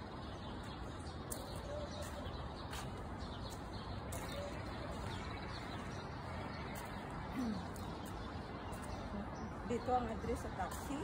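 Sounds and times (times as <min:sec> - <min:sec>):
birds chirping: 0:00.0 - 0:11.0
footsteps on paving stones: 0:00.0 - 0:11.0.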